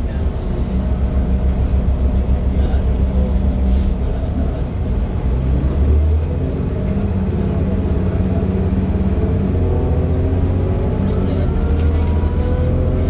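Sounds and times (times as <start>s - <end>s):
bus engine rumble: 0.0s - 13.0s
road and tyre noise: 0.0s - 13.0s.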